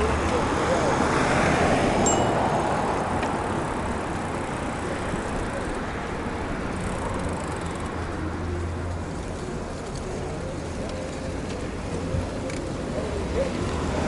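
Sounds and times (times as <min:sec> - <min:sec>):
bicycle tyres rolling: 0:02.0 - 0:14.0.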